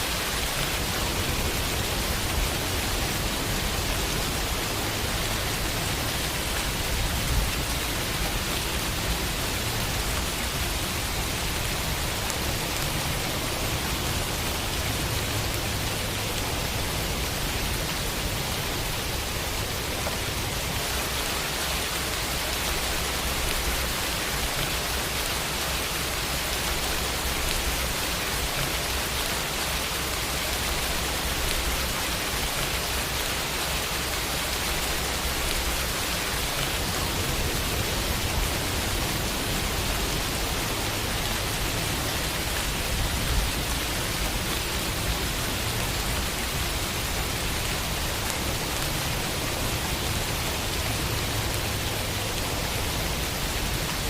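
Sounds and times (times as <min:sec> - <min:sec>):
rain on a window pane: 0:00.0 - 0:54.0.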